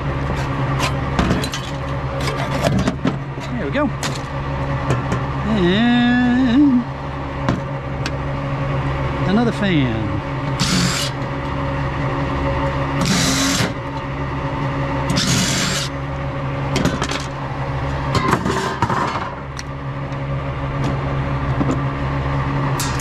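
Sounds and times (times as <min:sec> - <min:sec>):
low machine drone: 0:00.0 - 0:23.0.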